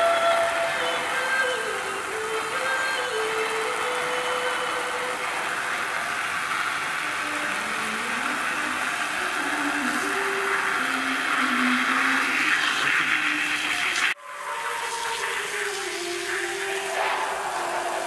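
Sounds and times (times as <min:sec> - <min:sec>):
hand sprayer hissing: 0:00.0 - 0:18.0.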